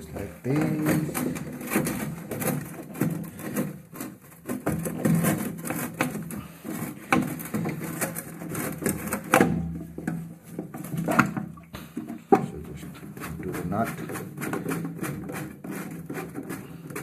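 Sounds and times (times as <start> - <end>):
plastic siphon knocking and scraping: 0.0 - 17.0.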